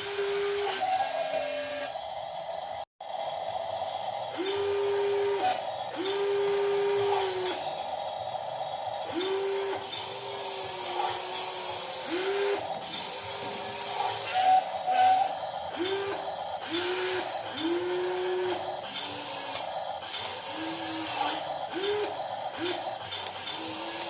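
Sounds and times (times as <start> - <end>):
small electric motor whine: 0.0 - 2.5, 4.3 - 24.0
continuous motor hum: 0.0 - 24.0.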